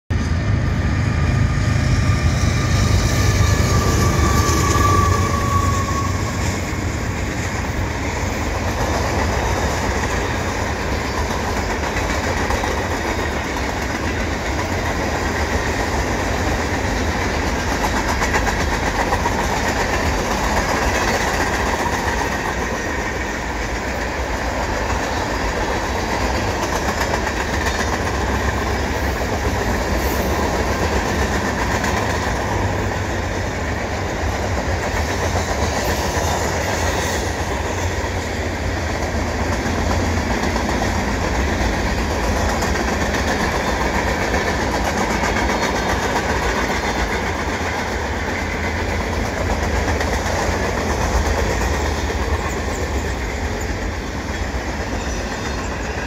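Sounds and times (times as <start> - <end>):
freight train wheels rumbling: 0.1 - 56.0.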